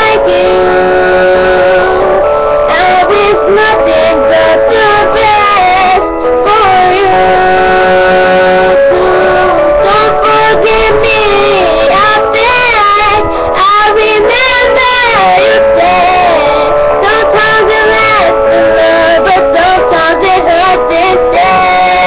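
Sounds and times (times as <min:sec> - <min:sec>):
backing music: 0:00.0 - 0:22.0
girl singing: 0:00.0 - 0:22.0.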